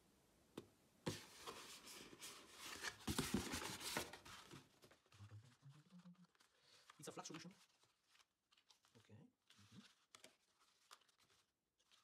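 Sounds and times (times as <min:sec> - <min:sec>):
cardboard rustling and scraping: 0:01.1 - 0:12.0.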